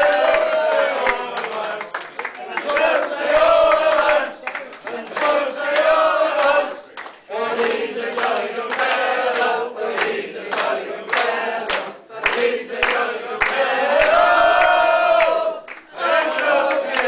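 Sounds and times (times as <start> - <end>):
group singing long notes: 0.0 - 17.0
people clapping in time: 0.0 - 17.0.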